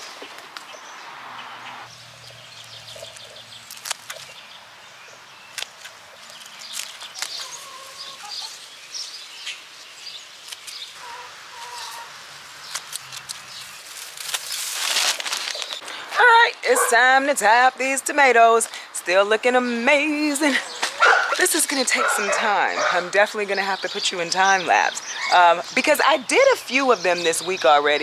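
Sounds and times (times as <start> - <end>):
birds chirping: 0.0 - 14.6, 15.5 - 28.0.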